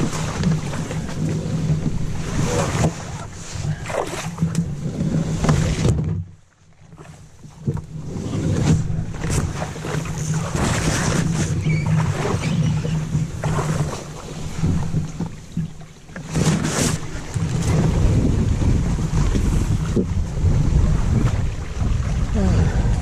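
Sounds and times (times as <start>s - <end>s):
brush scraping against canoe hull: 0.0s - 6.3s, 6.9s - 21.5s
low rumbling handling noise: 0.0s - 23.0s
sloshing water: 0.0s - 23.0s.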